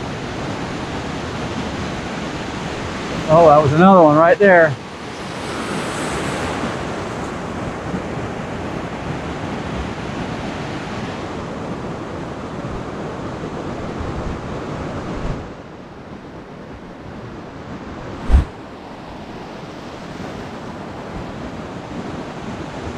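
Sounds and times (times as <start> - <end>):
ocean surf breaking: 0.0 - 22.9.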